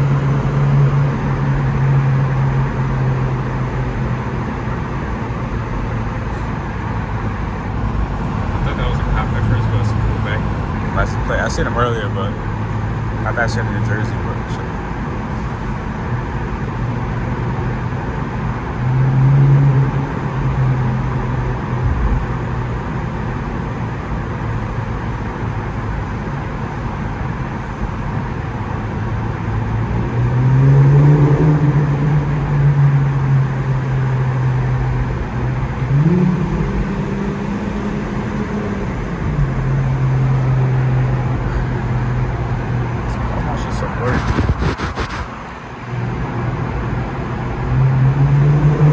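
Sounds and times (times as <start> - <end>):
car engine and exhaust droning: 0.0 - 48.9.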